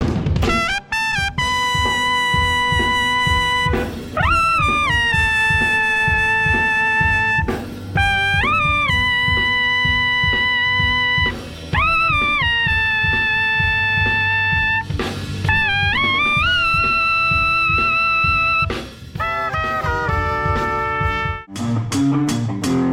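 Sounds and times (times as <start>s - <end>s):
backing track with drum kit: 0.0s - 22.9s
brass-like wind instrument: 0.4s - 21.5s.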